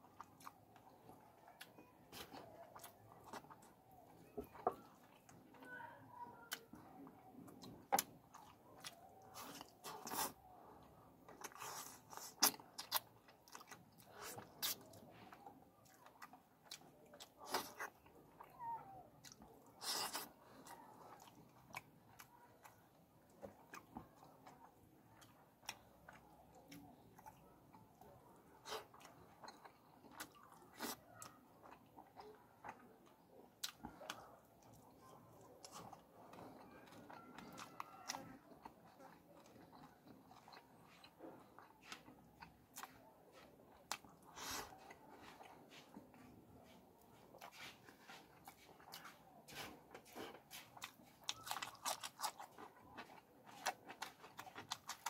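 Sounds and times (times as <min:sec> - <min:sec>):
wet chewing and lip smacks: 0:00.0 - 0:05.5, 0:06.4 - 0:55.0.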